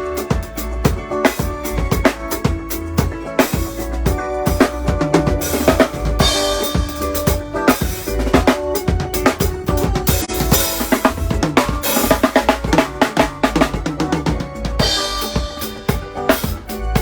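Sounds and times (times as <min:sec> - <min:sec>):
band playing: 0:00.0 - 0:17.0
drum kit playing busy beat: 0:00.0 - 0:17.0.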